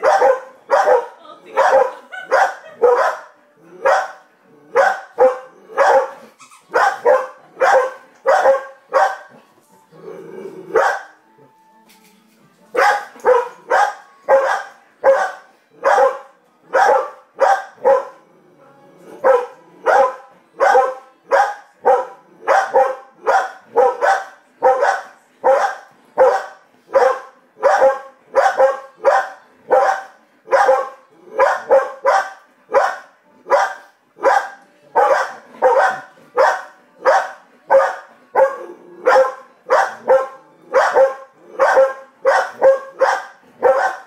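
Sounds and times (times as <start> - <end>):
dog barking: 0.0 - 4.2, 4.8 - 9.3, 10.8 - 11.1, 12.8 - 18.2, 19.2 - 44.0.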